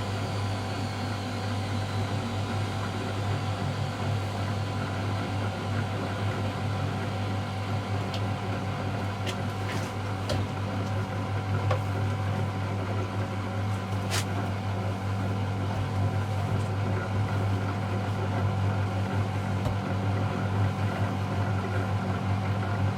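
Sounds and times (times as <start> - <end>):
washing machine motor hum: 0.0 - 22.9.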